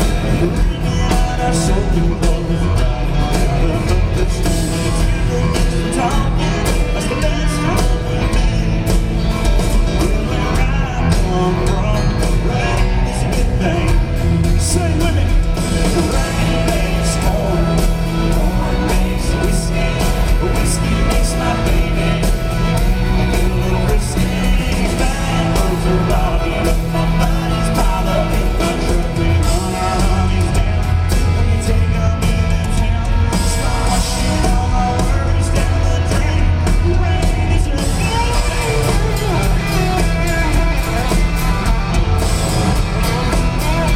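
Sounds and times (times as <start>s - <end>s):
country band playing: 0.0s - 43.9s
male singer: 0.0s - 43.9s.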